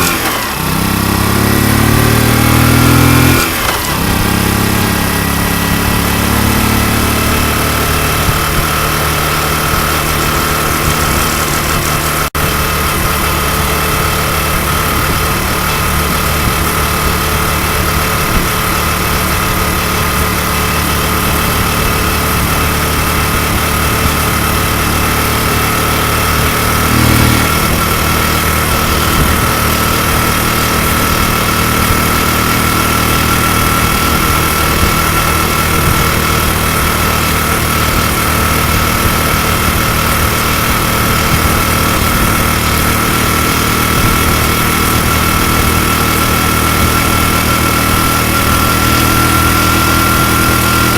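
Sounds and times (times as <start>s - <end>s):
motorcycle engine idling: 3.4s - 50.9s.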